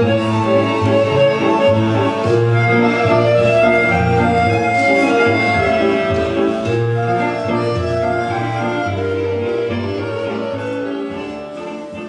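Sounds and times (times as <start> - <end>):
instrumental stage music: 0.0 - 12.0.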